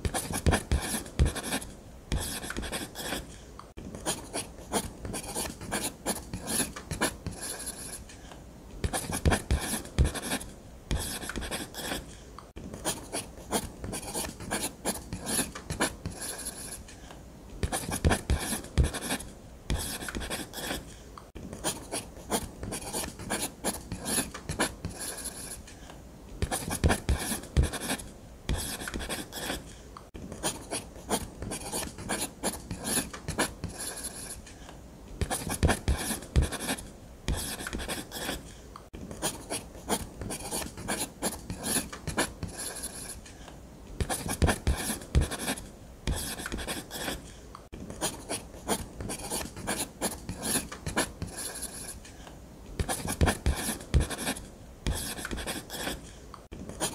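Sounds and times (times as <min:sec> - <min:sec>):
ballpoint pen scratching on paper: 0:00.0 - 0:03.4, 0:04.0 - 0:08.1, 0:08.8 - 0:12.1, 0:12.7 - 0:16.9, 0:17.6 - 0:25.7, 0:26.4 - 0:34.5, 0:35.2 - 0:38.6, 0:39.2 - 0:43.3, 0:44.0 - 0:47.3, 0:47.9 - 0:52.1, 0:52.8 - 0:56.1, 0:56.7 - 0:56.9.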